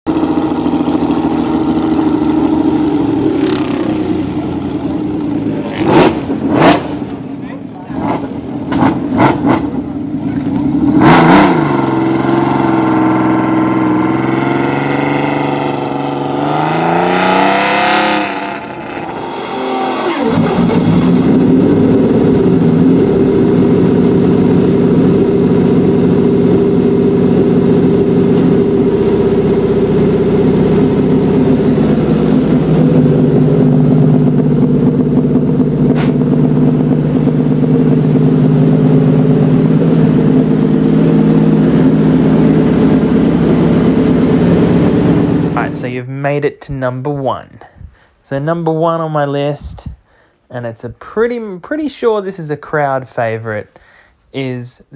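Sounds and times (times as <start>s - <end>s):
motorcycle engine revving: 0.1s - 45.8s.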